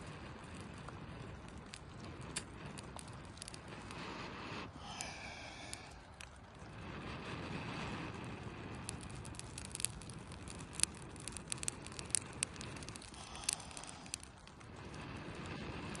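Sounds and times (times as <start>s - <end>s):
campfire crackling: 0.0s - 16.0s
steady low rumble: 0.0s - 16.0s.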